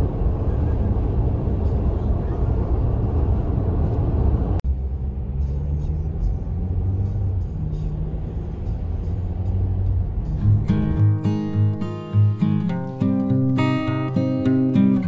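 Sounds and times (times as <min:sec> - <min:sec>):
car cabin road noise: 0:00.0 - 0:12.8.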